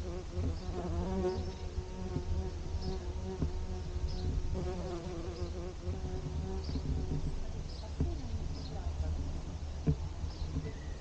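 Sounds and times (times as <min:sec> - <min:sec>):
bumblebee buzzing in flight: 0:00.0 - 0:10.6.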